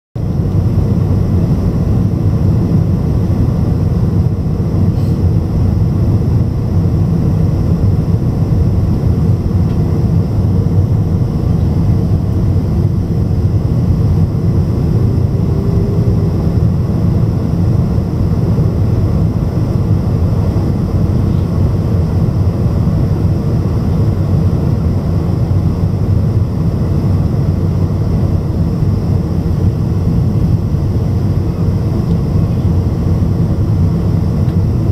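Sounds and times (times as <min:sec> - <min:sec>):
airplane engines rumbling in cabin: 0:00.2 - 0:34.9.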